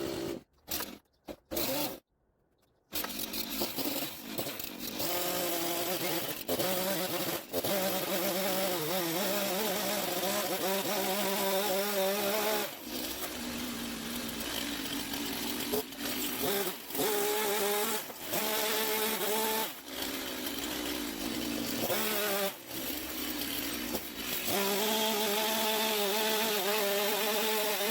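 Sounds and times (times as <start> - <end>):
chainsaw engine at high revs: 0.0 - 2.0, 2.9 - 27.9.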